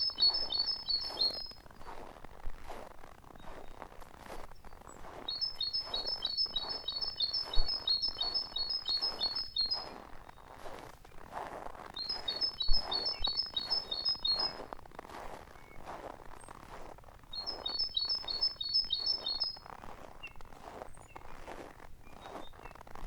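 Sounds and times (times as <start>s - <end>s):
songbird singing: 0.0s - 2.0s, 4.4s - 11.3s, 11.9s - 14.8s, 15.5s - 16.6s, 17.3s - 23.0s
crunching footsteps in snow: 0.0s - 23.0s.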